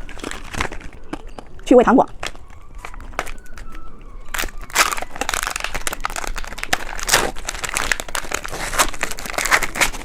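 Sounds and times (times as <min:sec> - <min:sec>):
candy crunching: 0:00.0 - 0:10.0
wrapper crinkling: 0:00.0 - 0:10.0.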